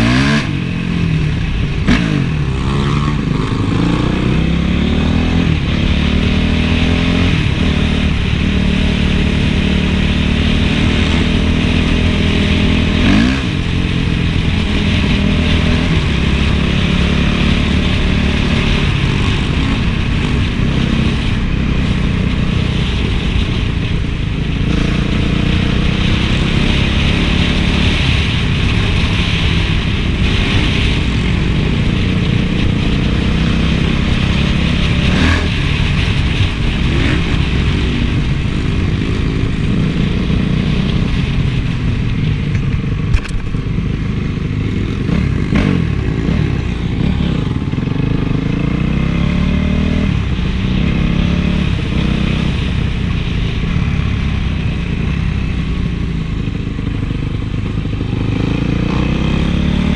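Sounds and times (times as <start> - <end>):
motocross engine revving: 0.0 - 23.6, 24.3 - 41.6, 44.2 - 52.7, 56.1 - 59.9.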